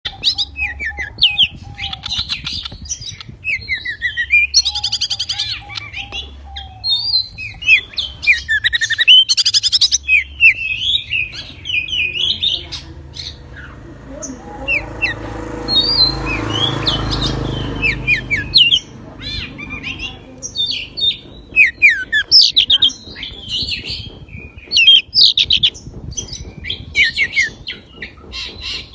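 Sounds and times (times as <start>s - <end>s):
bird singing: 0.0s - 28.9s
low rumbling noise: 0.0s - 28.9s.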